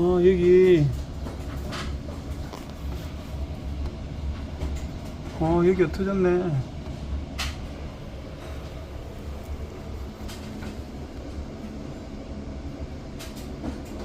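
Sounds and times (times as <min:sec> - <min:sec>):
low mechanical rumble with hum: 0:00.0 - 0:14.0.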